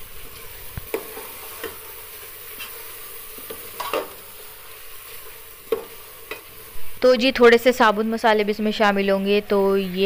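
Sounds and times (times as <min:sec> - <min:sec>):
meat sizzling in oil: 0:00.0 - 0:09.1.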